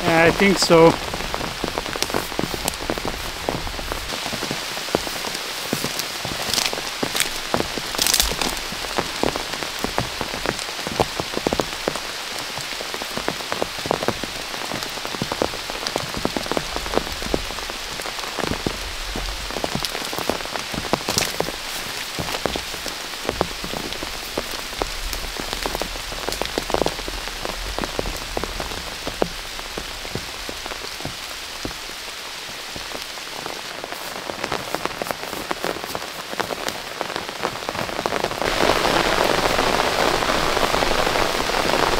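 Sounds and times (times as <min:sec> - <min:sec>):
heavy rain: 0:00.0 - 0:41.9
raindrops ticking close by: 0:00.0 - 0:41.9.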